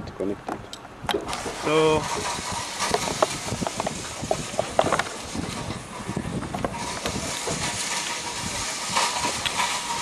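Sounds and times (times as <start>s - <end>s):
steady hiss: 1.2s - 10.0s.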